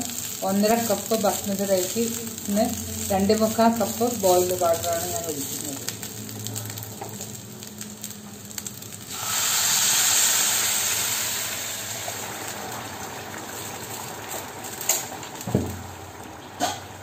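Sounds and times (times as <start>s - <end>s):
frying sizzle: 0.0s - 17.0s
water pouring into hot pan: 0.0s - 17.0s.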